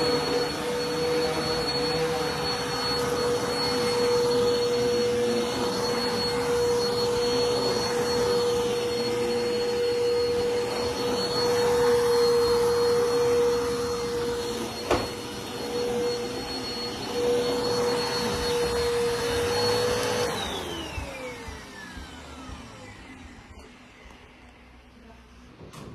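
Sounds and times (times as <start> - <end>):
vacuum cleaner whining: 0.0 - 25.9.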